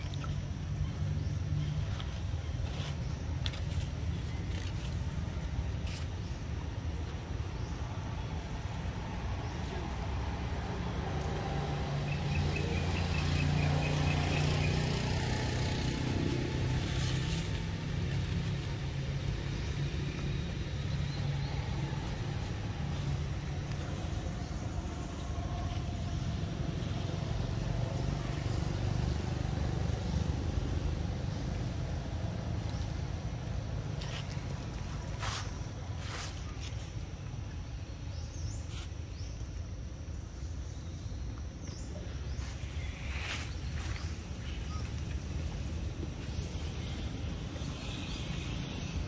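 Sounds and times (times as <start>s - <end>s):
vehicle engine rumble: 0.0s - 49.0s.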